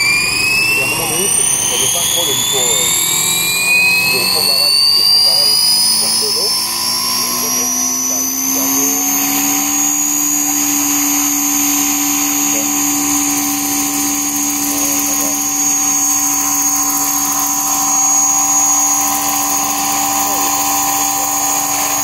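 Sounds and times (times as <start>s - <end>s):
model helicopter electric motor whine: 0.0s - 22.0s.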